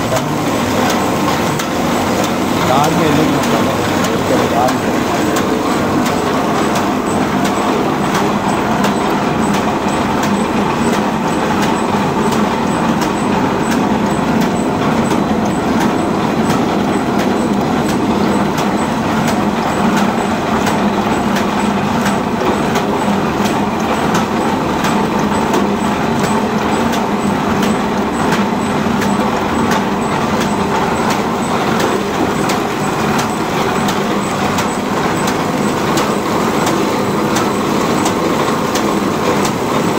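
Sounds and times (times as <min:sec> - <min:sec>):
machine clattering: 0:00.0 - 0:39.9
sharp machine clicks: 0:00.0 - 0:39.9.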